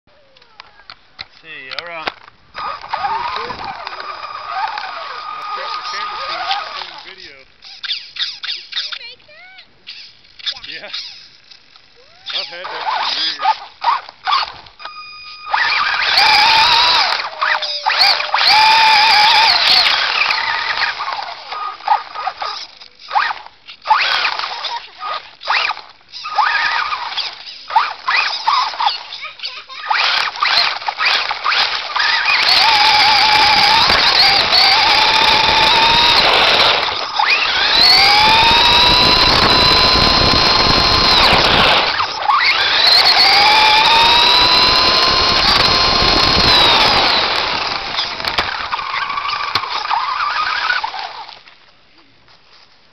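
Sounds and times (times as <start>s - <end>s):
toy truck electric motor whining: 2.6s - 9.2s, 9.9s - 11.4s, 12.2s - 51.4s.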